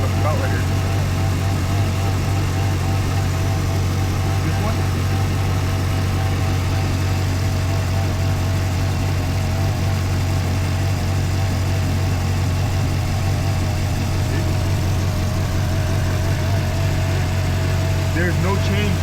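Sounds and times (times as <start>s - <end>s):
car engine idling with misfire: 0.0s - 19.0s.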